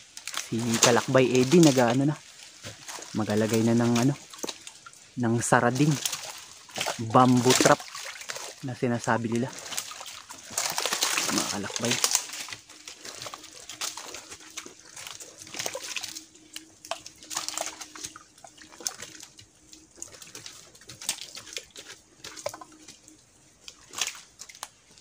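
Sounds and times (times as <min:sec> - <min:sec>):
faint steady hum: 0:00.0 - 0:25.0
wet mud squelching: 0:00.0 - 0:25.0.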